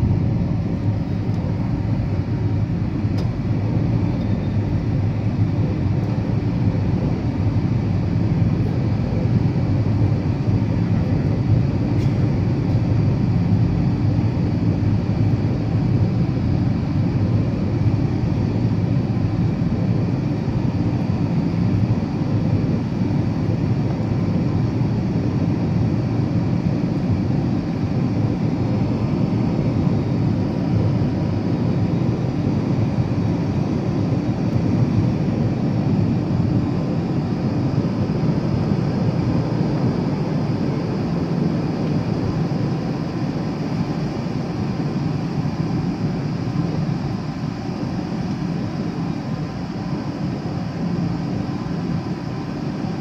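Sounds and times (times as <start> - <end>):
jet engine cabin rumble: 0.0 - 53.0.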